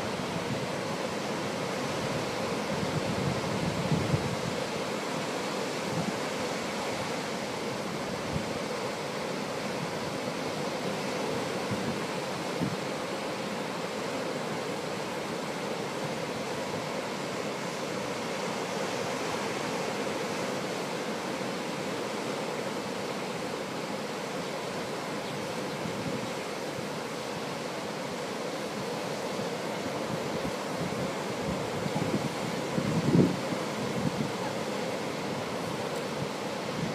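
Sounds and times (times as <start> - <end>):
ocean surf breaking: 0.0 - 36.9
wind: 0.0 - 36.9.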